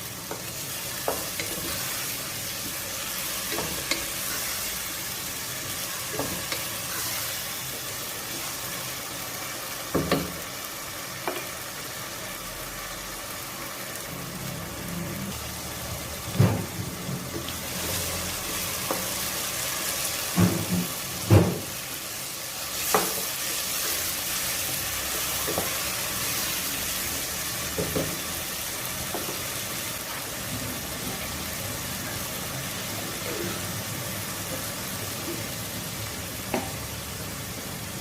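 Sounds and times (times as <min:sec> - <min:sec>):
food frying in hot oil: 0:00.0 - 0:38.0.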